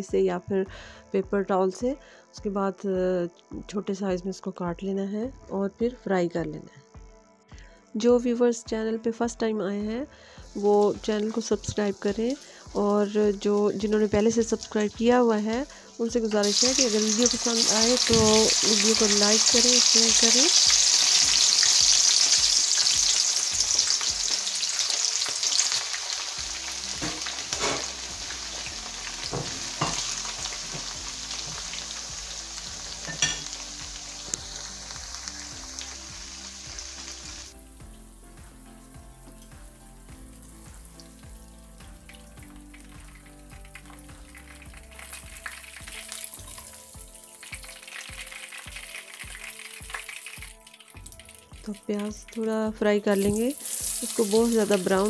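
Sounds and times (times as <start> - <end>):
okra sizzling in hot oil: 10.2 - 52.4, 53.1 - 55.0.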